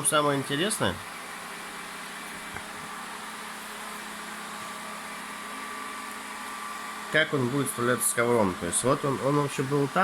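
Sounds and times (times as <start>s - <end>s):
robot vacuum whirring hum: 0.1s - 10.0s.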